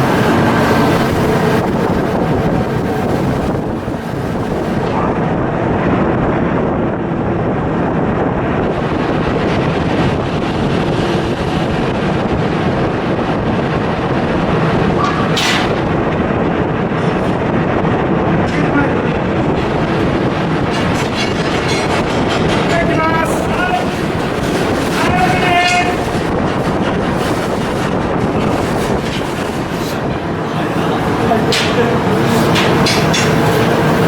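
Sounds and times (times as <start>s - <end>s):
loud machinery noise: 0.0s - 34.0s.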